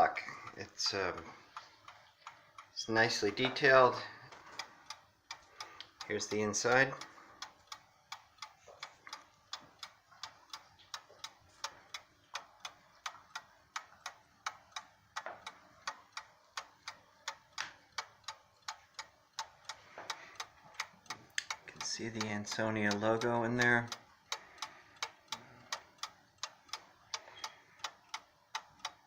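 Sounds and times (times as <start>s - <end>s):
mantel clock ticking: 0.0s - 29.0s.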